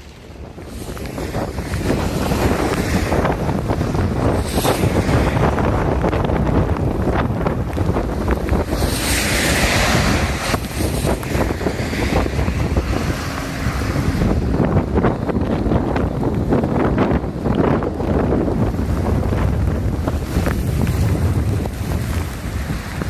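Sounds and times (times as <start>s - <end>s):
rushing floodwater: 0.0s - 23.0s
wind buffeting microphone: 0.0s - 23.0s.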